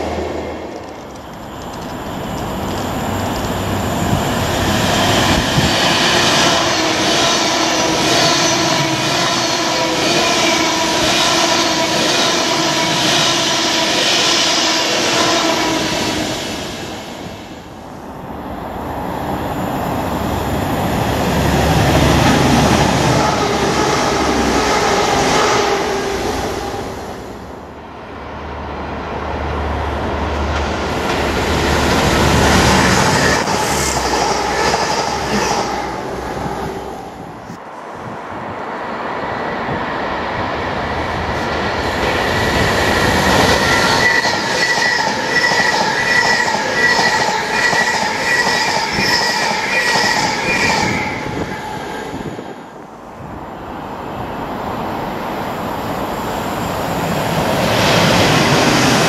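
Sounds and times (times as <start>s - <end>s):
passenger train rushing past: 0.0s - 59.0s
train engine drone: 0.0s - 59.0s.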